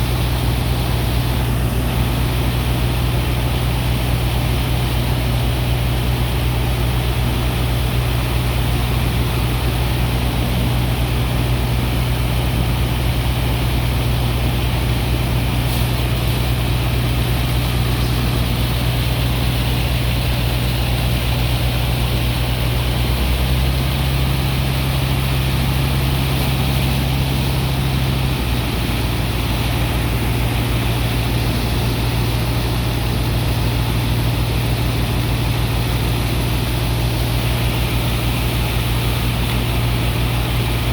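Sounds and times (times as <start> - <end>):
deep diesel engine drone: 0.0 - 40.9
pump rushing noise: 0.0 - 40.9.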